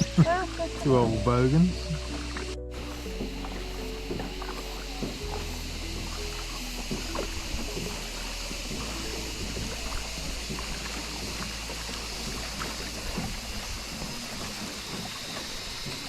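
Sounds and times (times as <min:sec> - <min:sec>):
low rumble: 0:00.0 - 0:14.7
oars splashing water: 0:00.0 - 0:16.0
steady hiss: 0:00.0 - 0:16.0.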